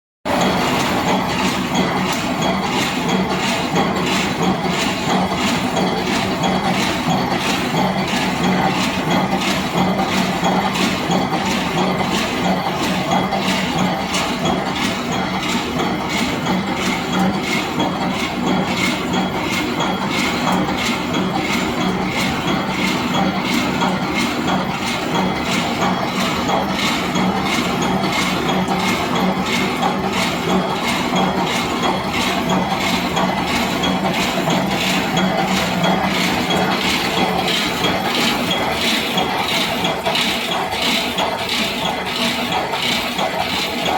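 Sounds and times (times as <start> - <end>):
welding machine clatter: 0.3 - 43.9.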